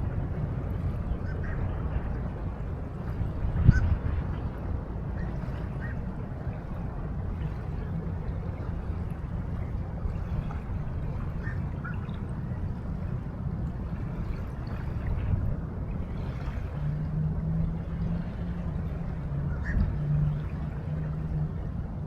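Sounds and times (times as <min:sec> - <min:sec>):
river waves: 0:00.0 - 0:22.0
wind: 0:00.0 - 0:22.0.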